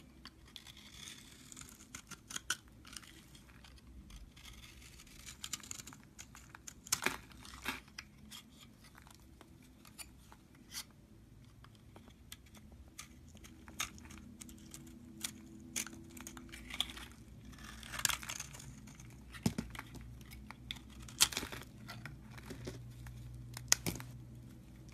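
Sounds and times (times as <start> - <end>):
knife carving dry soap: 0.0 - 24.9.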